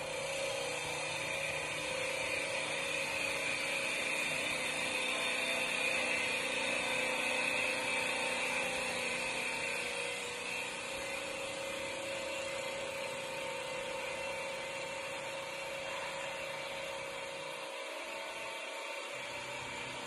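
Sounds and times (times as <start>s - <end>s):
lathe machine whine: 0.0s - 20.0s.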